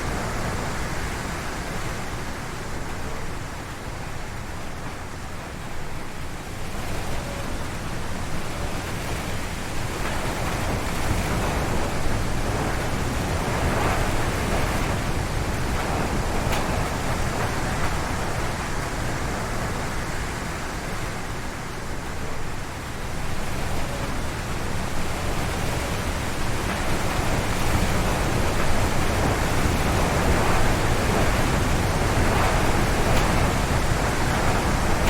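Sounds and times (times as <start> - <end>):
gusty wind through trees: 0.0 - 35.0.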